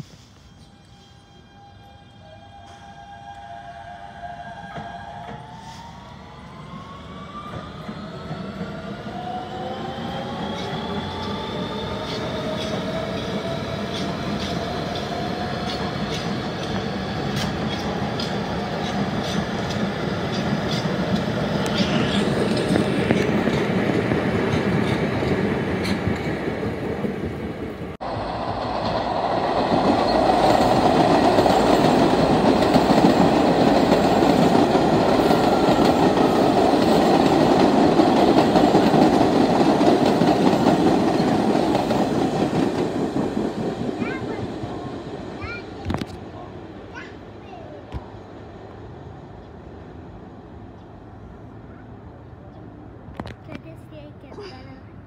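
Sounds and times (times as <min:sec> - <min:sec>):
subway train passing: 0:00.0 - 0:55.0.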